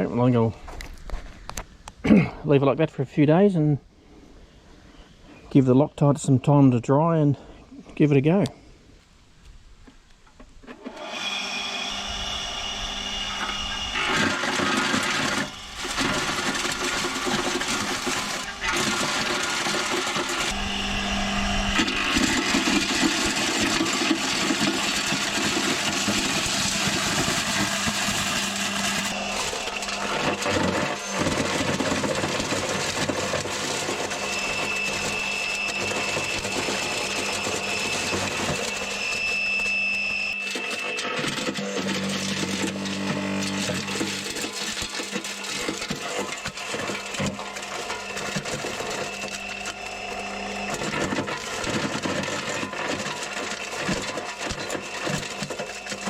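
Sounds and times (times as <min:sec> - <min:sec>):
garden mulcher running: 0:10.6 - 0:56.0.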